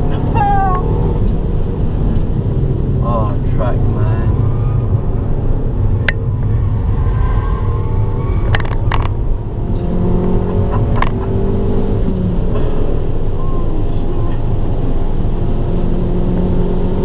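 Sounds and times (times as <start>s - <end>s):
car engine pulling: 0.0s - 17.0s.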